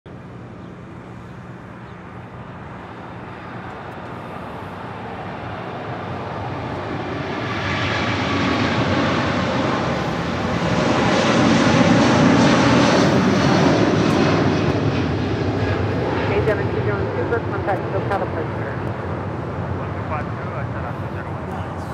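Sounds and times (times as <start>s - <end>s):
jet engines roaring at takeoff: 0.1s - 21.9s.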